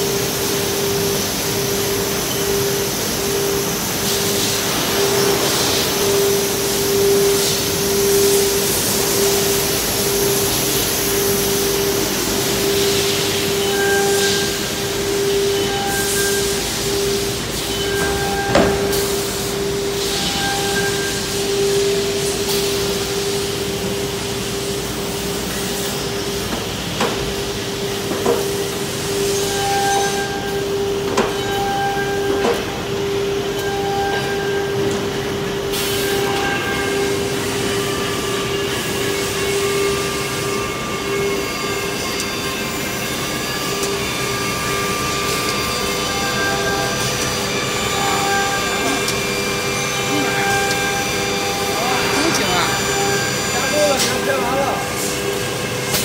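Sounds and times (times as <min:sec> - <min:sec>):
cnc router machine hum: 0:00.0 - 0:56.0.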